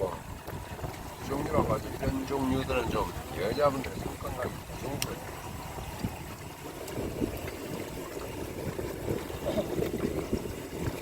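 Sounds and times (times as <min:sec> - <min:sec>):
boat engine low rumble: 0:00.0 - 0:11.0
water sloshing against hull: 0:00.0 - 0:11.0.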